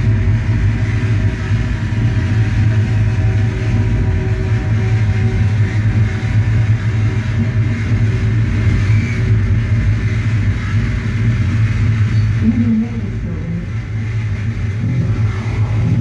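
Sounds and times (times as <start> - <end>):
loud low electronic drone: 0.0 - 16.0.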